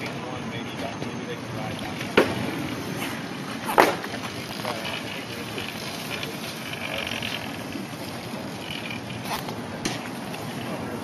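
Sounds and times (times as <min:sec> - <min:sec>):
electric motorcycle whir: 0:00.0 - 0:11.0
tyre noise: 0:00.0 - 0:11.0.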